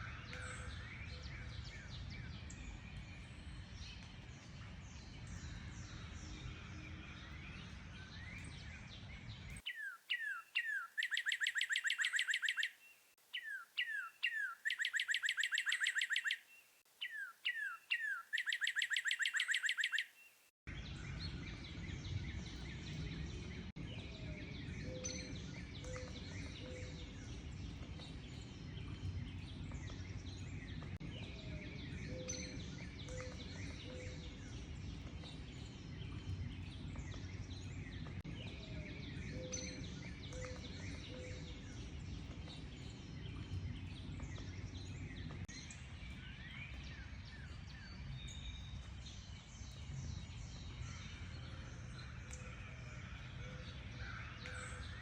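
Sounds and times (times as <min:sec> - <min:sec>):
loud bird song rapid notes: 0:00.0 - 0:52.6
small birds chirping: 0:00.0 - 0:52.6.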